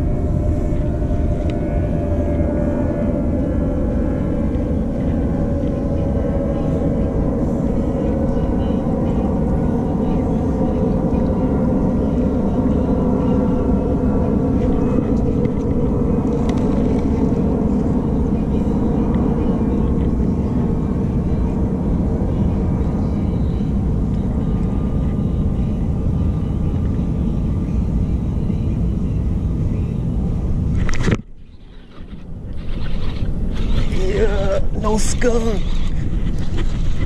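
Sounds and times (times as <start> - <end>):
distant engine hum: 0.0 - 37.0
wind rumble on microphone: 0.0 - 37.0.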